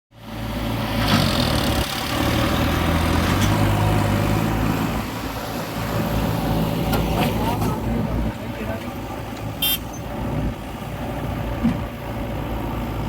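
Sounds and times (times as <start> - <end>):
diesel engine running at low revs: 0.1 - 13.0.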